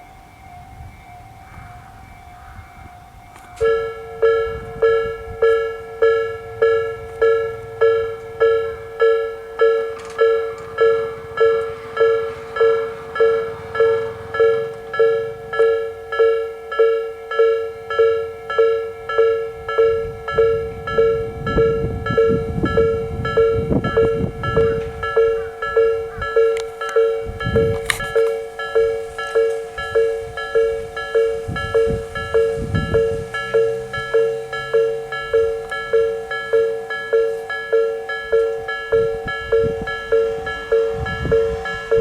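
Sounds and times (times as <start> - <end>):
level crossing alarm chime: 0.0 - 42.0
low rumble of approaching train: 0.0 - 42.0.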